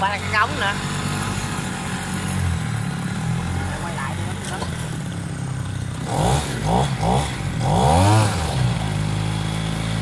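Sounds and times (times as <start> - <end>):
two-stroke boat engine revving: 0.0 - 10.0.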